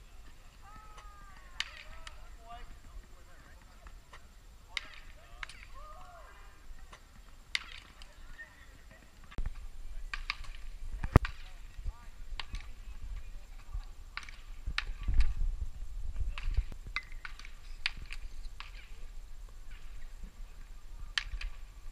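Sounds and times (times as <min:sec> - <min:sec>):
bats cracking balls: 0:00.2 - 0:08.4, 0:09.2 - 0:15.4, 0:16.3 - 0:20.1, 0:21.0 - 0:21.7.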